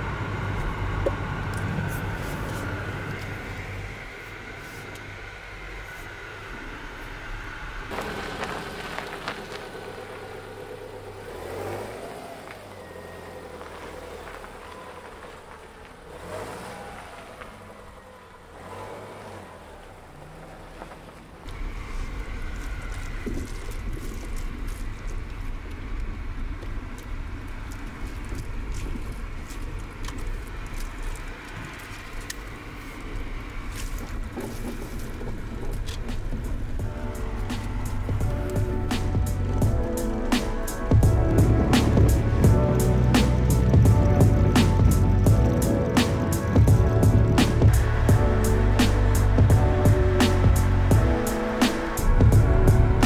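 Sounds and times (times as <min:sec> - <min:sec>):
car engine: 0:00.0 - 0:53.0
tyres rumbling on gravel: 0:00.0 - 0:53.0
gravel ticks: 0:00.2 - 0:53.0.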